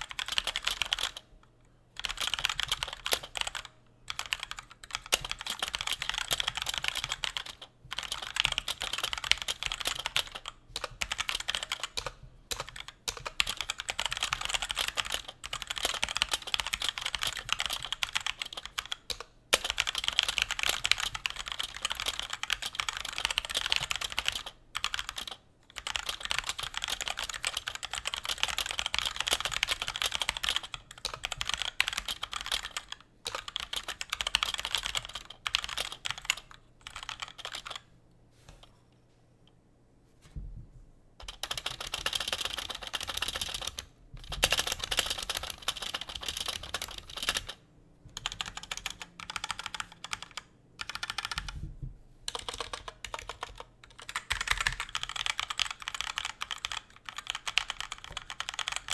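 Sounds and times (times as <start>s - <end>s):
fast typing on mechanical keyboard: 0.0s - 1.3s, 1.9s - 37.9s, 41.2s - 51.6s, 52.3s - 58.9s.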